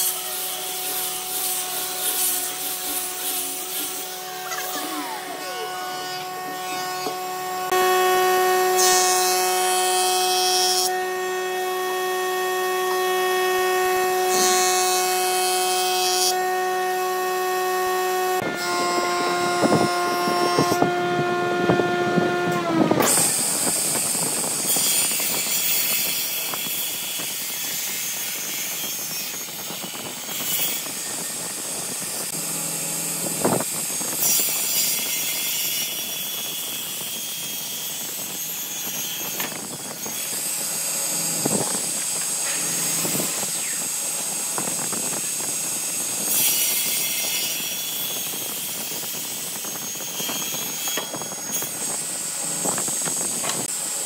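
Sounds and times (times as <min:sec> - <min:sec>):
table saw cutting wood: 0:00.0 - 0:54.0.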